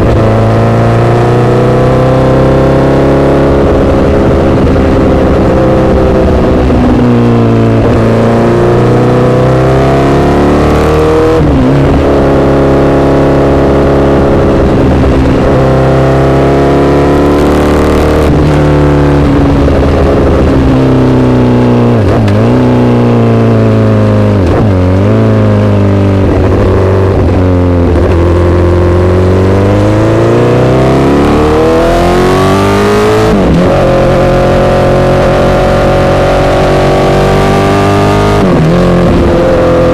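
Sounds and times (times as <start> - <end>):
motorcycle engine changing gears: 0.0 - 39.9.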